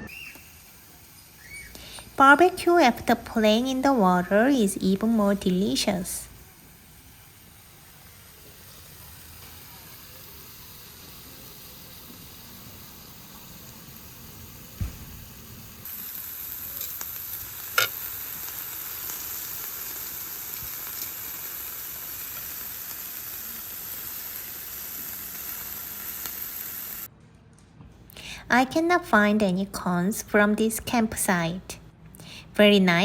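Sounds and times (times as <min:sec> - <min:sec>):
food sizzling on a grill: 0:00.0 - 0:27.1.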